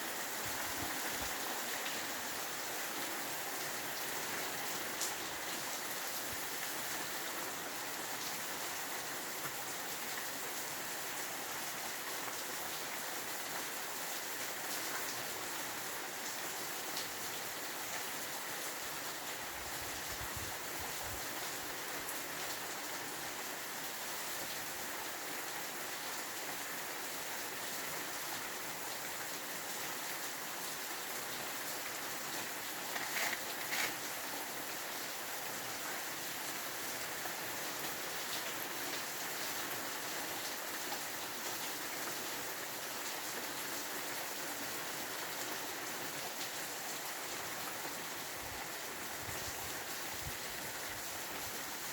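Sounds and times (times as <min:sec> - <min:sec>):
rain spatters: 0:00.0 - 0:51.9
steady rain hiss: 0:00.0 - 0:51.9.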